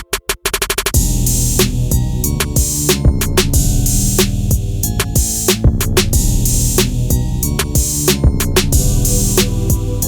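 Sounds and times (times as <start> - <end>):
music with drum-machine beat: 0.0 - 10.0.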